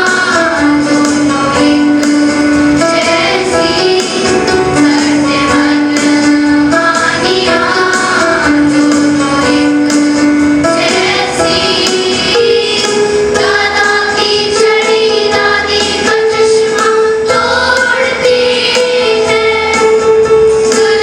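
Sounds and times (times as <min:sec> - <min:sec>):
young female voices singing: 0:00.0 - 0:02.2, 0:02.8 - 0:10.0, 0:10.7 - 0:20.0, 0:20.7 - 0:21.0
instrumental backing: 0:00.0 - 0:21.0.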